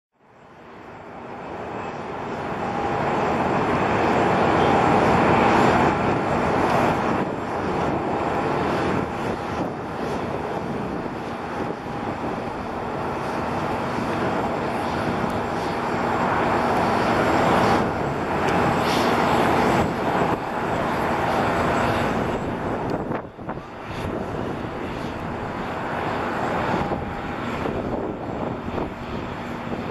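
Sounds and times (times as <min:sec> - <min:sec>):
jet engines rushing with whine: 0:00.2 - 0:29.9.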